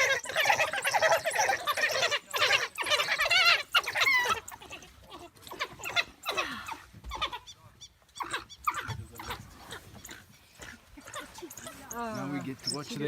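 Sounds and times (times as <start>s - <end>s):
wild dogs yelping and twittering: 0.0s - 13.0s.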